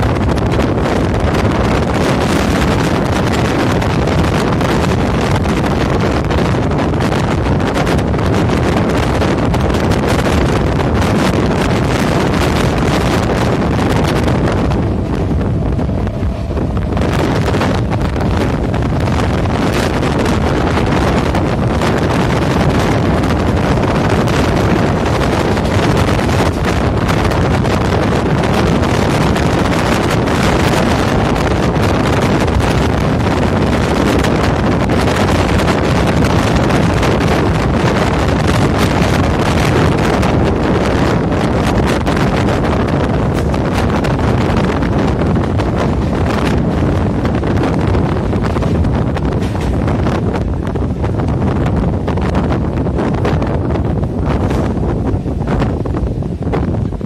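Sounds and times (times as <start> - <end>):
train rumbling on track: 0.0 - 57.0
wind buffeting microphone: 0.0 - 57.0.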